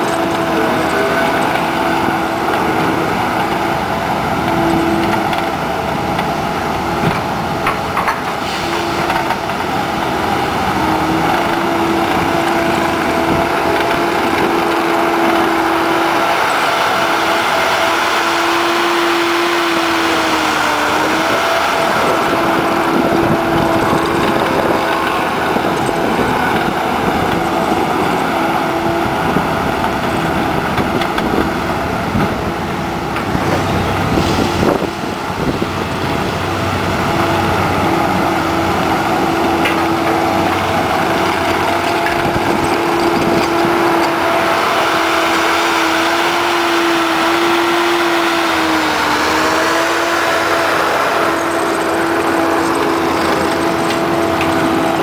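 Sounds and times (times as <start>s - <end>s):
steady whine: 0.0s - 55.0s
track loader diesel engine: 0.0s - 55.0s.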